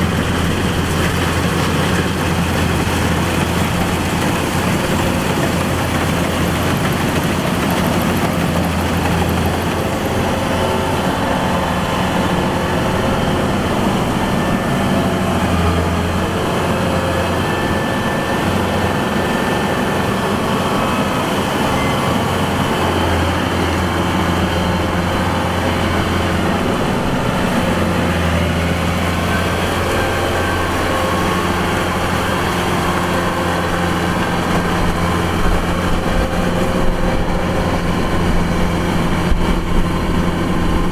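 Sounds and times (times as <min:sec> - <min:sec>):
combine harvester diesel engine humming: 0:00.0 - 0:40.9.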